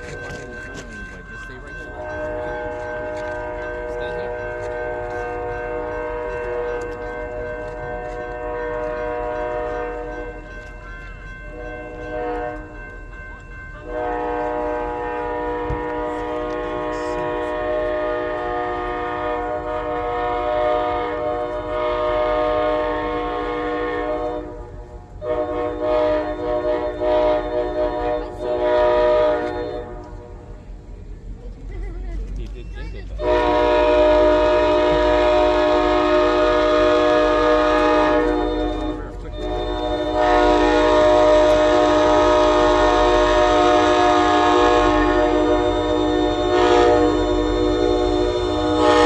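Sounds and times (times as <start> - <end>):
locomotive air horn: 0.0 - 10.8, 11.5 - 12.9, 13.8 - 30.6, 33.1 - 49.0.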